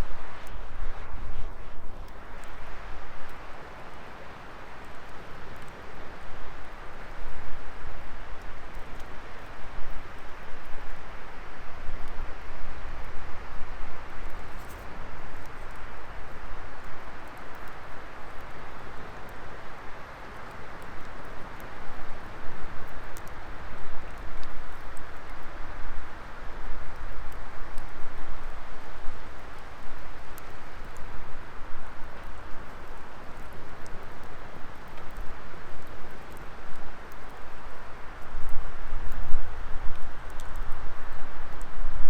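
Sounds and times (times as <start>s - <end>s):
fire crackles and pops: 0.0s - 42.0s
wood fire burning: 0.0s - 42.0s.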